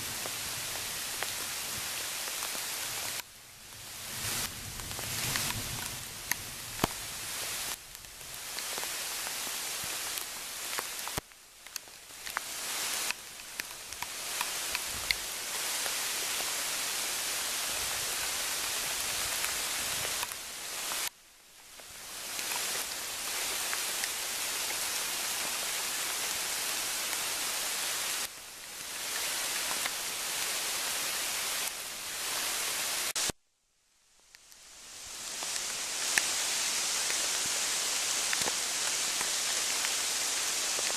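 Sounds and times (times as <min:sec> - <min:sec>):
rain falling on foliage: 0:00.0 - 0:33.4, 0:34.0 - 0:40.9
ticks of single raindrops: 0:00.1 - 0:33.4, 0:34.1 - 0:40.9.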